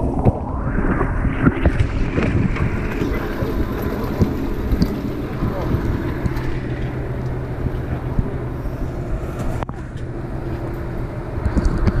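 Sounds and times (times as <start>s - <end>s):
boat engine humming: 1.5s - 12.0s.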